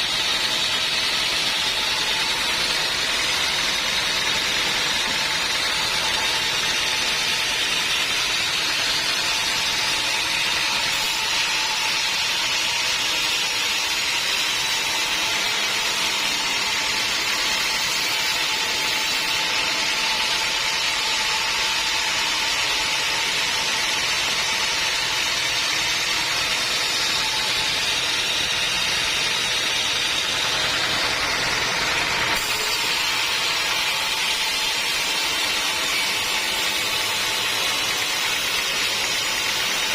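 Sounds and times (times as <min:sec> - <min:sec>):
band sawmill sawing log: 0:00.0 - 0:39.9
constant saw whine: 0:00.0 - 0:39.9.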